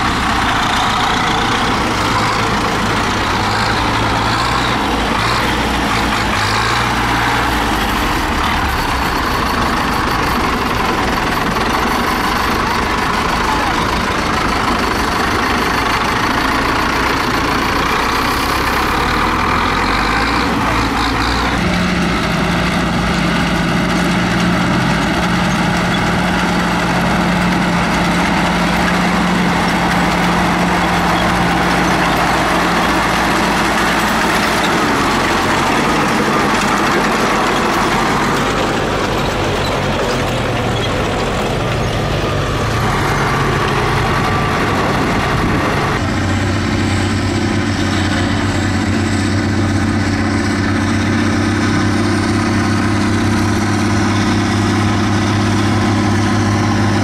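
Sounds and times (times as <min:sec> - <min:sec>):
diesel tractor engines running: 0:00.0 - 0:57.0.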